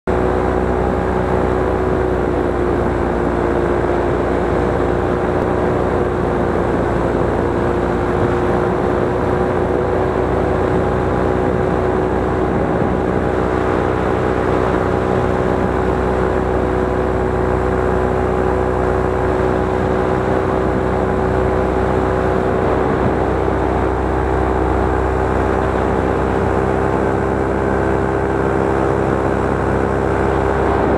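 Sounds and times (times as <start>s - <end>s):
drone propellers whirring: 0.1s - 30.9s.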